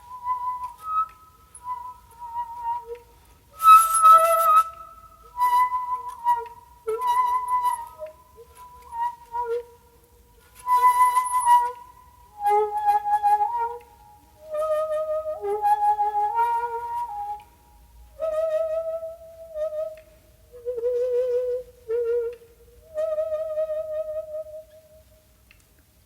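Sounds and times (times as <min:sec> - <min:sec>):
shakuhachi playing long notes: 0:00.0 - 0:25.4.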